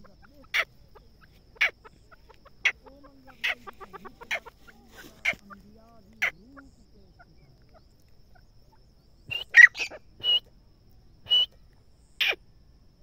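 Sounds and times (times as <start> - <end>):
francolin calling: 0.0 - 13.0.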